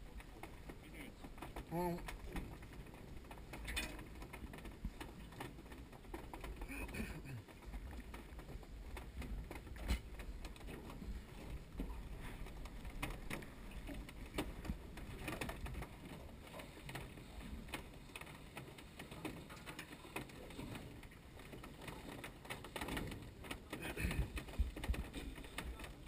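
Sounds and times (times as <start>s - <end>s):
waves slapping boat hull: 0.0s - 26.0s.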